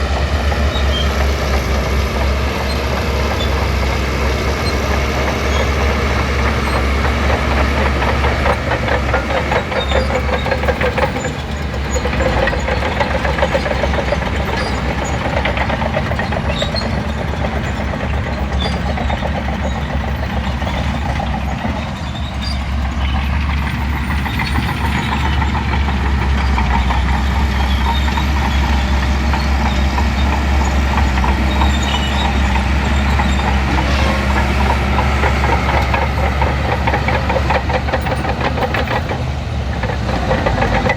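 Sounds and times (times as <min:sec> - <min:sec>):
bulldozer diesel engine rattling: 0:00.0 - 0:40.9.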